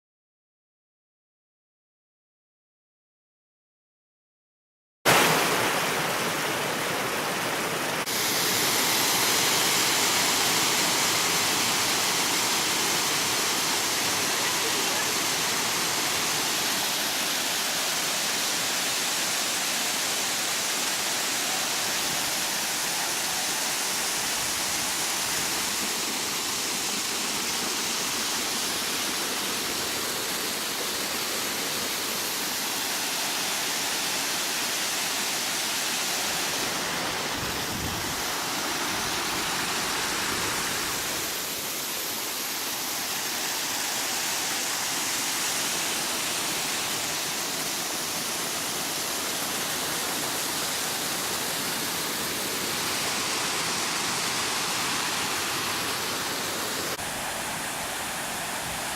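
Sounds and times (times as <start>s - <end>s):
waterfall rushing: 5.1s - 58.9s.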